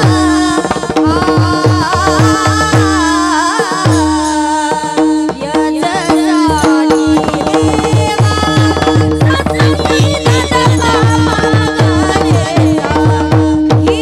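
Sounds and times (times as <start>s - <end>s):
hand drum: 0.0s - 14.0s
woman singing: 0.0s - 14.0s.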